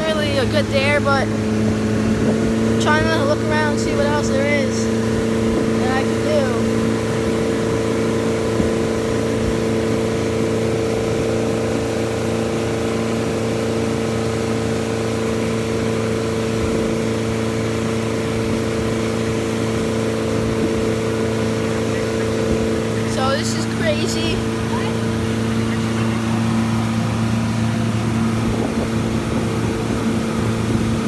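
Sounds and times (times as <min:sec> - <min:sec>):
motorboat engine humming: 0:00.0 - 0:31.0
wind and water rushing: 0:00.0 - 0:31.0.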